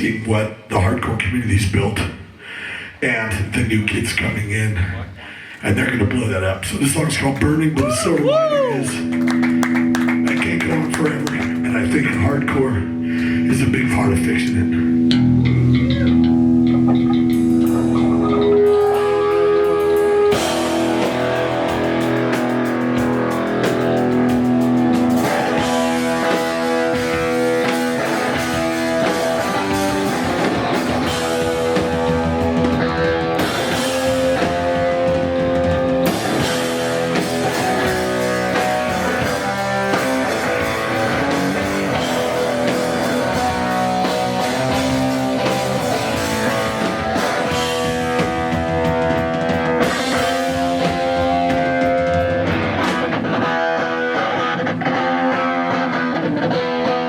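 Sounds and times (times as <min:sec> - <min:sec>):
distorted electric guitars: 0:01.0 - 0:57.0
bass guitar: 0:06.0 - 0:57.0
drum kit: 0:06.8 - 0:57.0.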